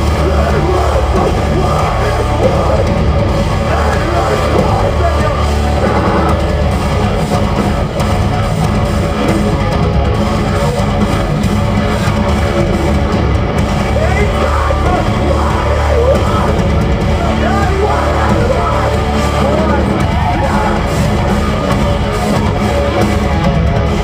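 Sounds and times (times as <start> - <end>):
heavy distorted electric guitars: 0.0 - 24.0
pounding drum kit: 0.0 - 24.0.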